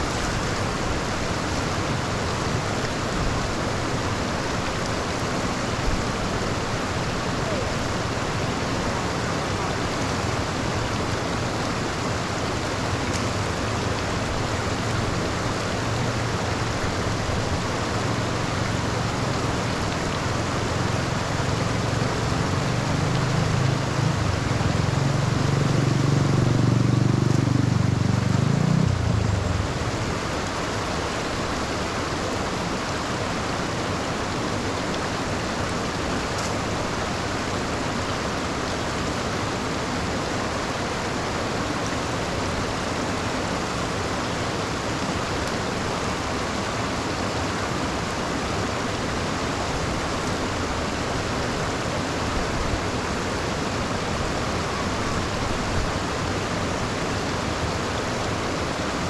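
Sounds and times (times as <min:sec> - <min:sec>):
rain and running floodwater: 0:00.0 - 0:59.0.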